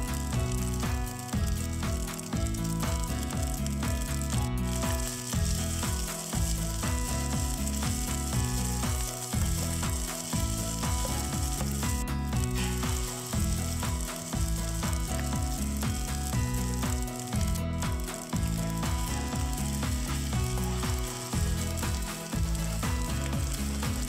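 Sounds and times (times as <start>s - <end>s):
background music with beat: 0.0s - 24.0s
rice sizzling in frying pan: 0.0s - 24.0s.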